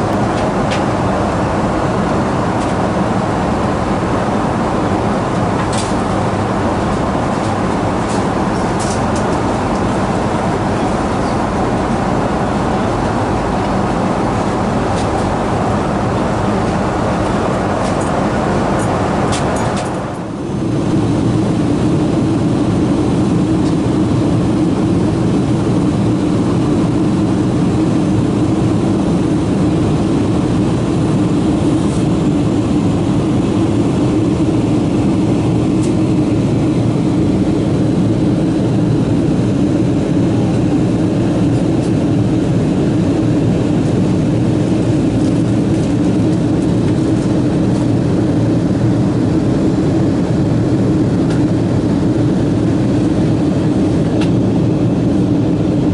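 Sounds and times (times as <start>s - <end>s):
jet cabin engine drone: 0.0s - 55.9s.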